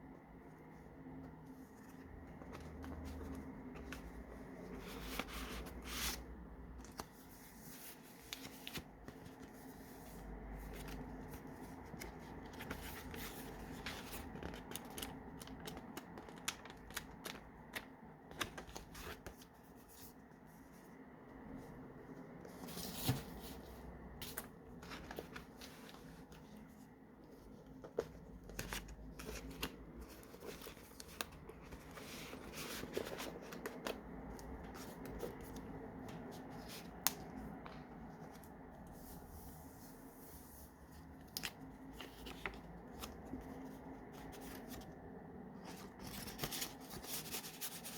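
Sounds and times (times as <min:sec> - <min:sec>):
faint steady hum: 0:00.0 - 0:47.9
paper pages rustling: 0:00.7 - 0:20.9, 0:22.2 - 0:47.9.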